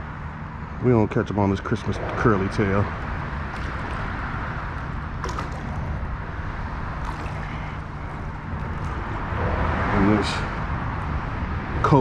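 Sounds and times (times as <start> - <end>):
traffic rumble overhead: 0.0 - 12.0.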